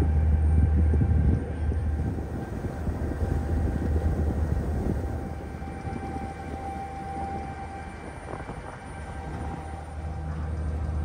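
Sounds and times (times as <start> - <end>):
faint steady whine: 0.0 - 11.0
ferry engines rumbling: 0.0 - 11.0
wind noise: 0.0 - 11.0.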